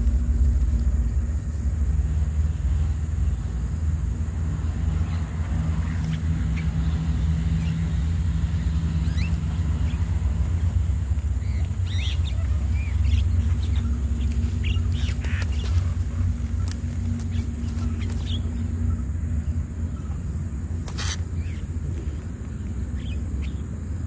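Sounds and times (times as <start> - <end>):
low rumble: 0.0 - 24.0
birds chirping and squawking: 4.2 - 24.0.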